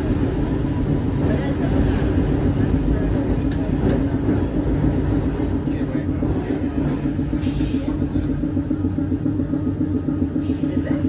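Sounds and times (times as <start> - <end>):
streetcar pulsing hum: 0.0 - 11.0.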